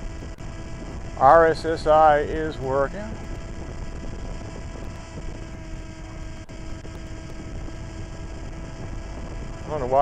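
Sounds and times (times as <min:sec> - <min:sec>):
steady tonal hum: 0:00.0 - 0:10.0
wind rumble on microphone: 0:00.0 - 0:10.0.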